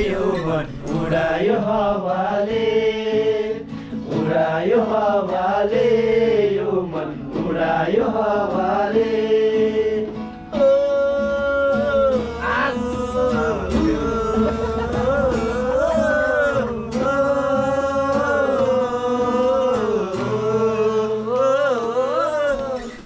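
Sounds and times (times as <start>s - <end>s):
accompanying music: 0.0s - 23.0s
man singing folk song: 0.0s - 23.0s.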